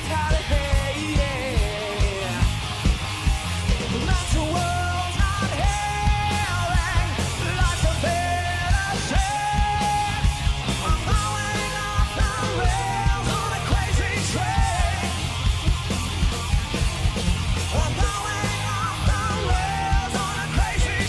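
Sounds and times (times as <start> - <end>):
man singing: 0.0 - 2.6, 4.0 - 15.4, 17.7 - 21.0
bass guitar: 0.0 - 21.0
distorted electric guitars: 0.0 - 21.0
steady drum beat: 0.0 - 21.0.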